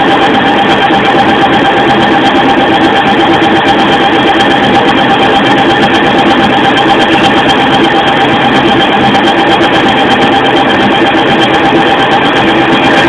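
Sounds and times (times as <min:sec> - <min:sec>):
lathe machine drone: 0:00.0 - 0:13.0.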